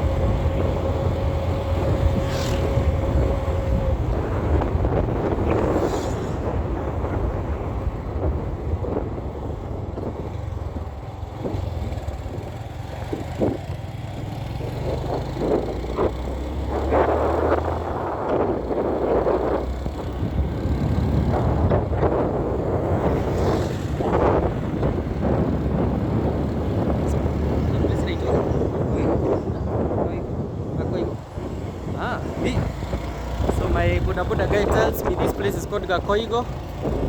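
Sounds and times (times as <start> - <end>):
motorcycle engine drone: 0.0 - 37.0
wind gusting on microphone: 0.0 - 37.0.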